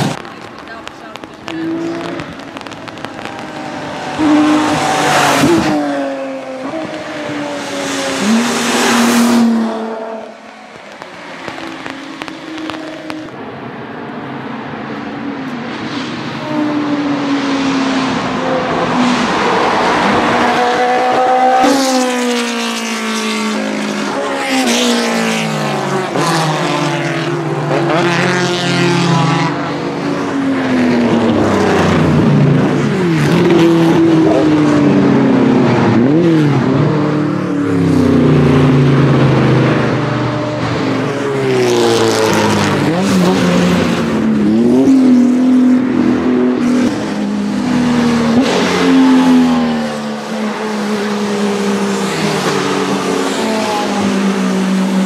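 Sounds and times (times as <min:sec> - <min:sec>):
race car engines revving: 0:00.0 - 0:55.0
race car passing: 0:01.2 - 0:55.0.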